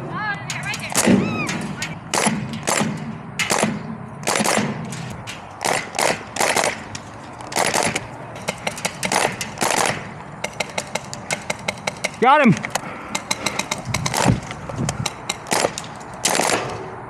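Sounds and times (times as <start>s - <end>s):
airsoft guns firing: 0.5s - 16.9s.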